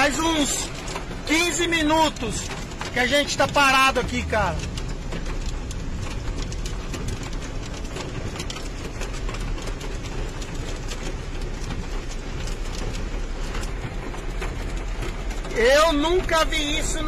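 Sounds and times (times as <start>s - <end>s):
hail and rain on car roof: 0.0s - 17.0s.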